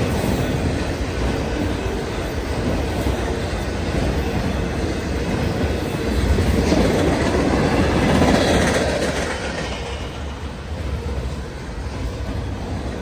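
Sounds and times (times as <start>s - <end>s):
train wheels clacking over rails: 0.0s - 13.0s.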